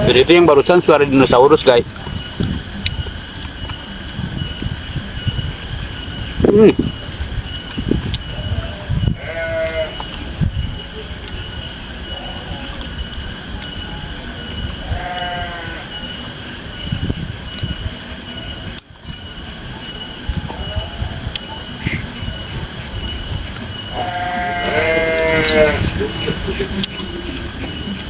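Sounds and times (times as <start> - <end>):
drawn-out wavering calls: 0.0 - 28.0
steady high drone: 0.0 - 28.0.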